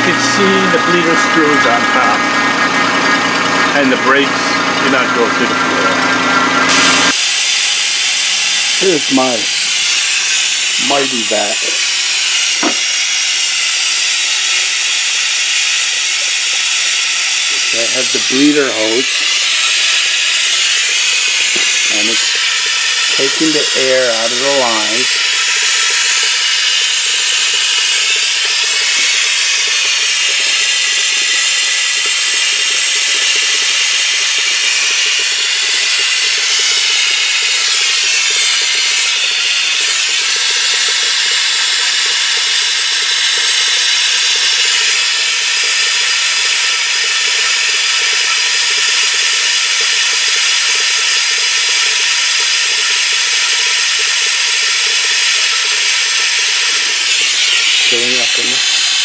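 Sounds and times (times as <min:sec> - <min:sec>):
compressed air hissing: 0:06.7 - 0:59.0.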